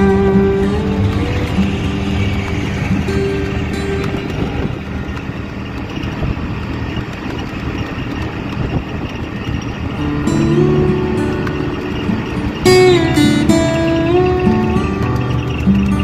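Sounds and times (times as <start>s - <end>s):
road and wind noise: 0.0s - 16.0s
small engine running steadily: 0.0s - 16.0s.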